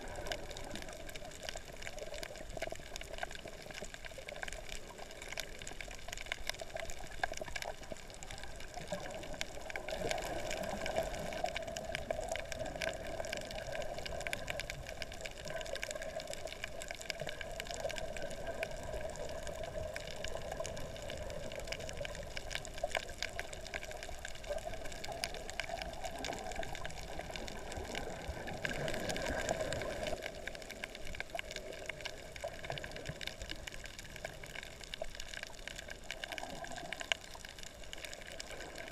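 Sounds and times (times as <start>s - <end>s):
clicks and crackles: 0.0s - 38.9s
underwater rushing wash: 0.0s - 38.9s.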